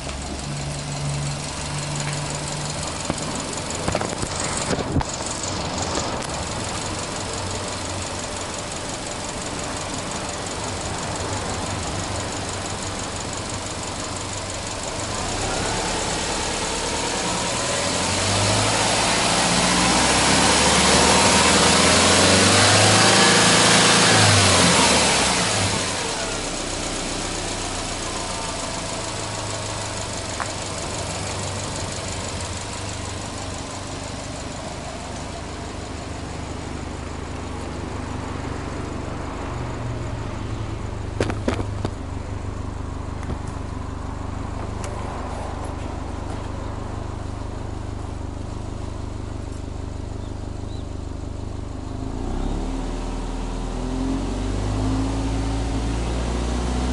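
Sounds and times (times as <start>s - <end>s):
car engine idling: 0.0s - 54.5s.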